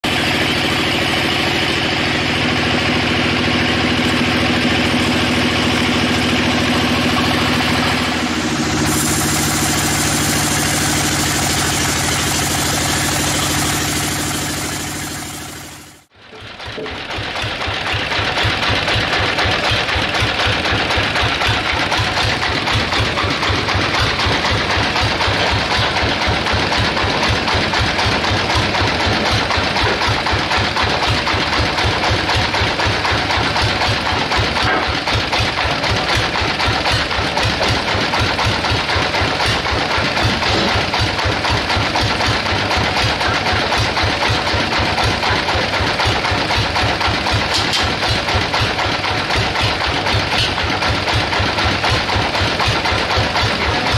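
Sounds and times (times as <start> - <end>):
sawmill engine running: 0.0 - 53.9.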